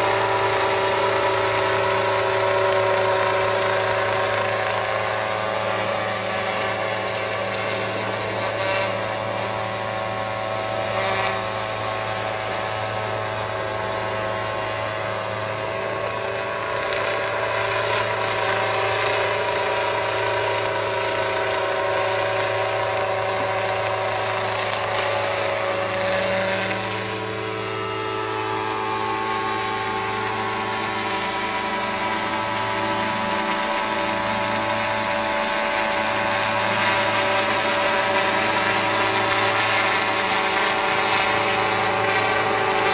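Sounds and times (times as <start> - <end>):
rotor aircraft mechanical hum: 0.0 - 42.9.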